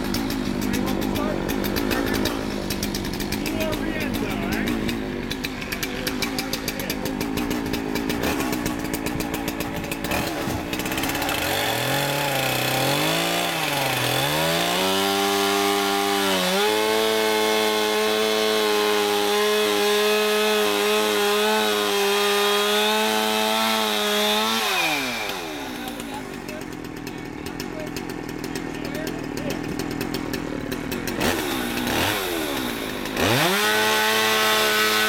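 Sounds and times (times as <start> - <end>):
two-stroke saw revving: 0.0 - 35.0.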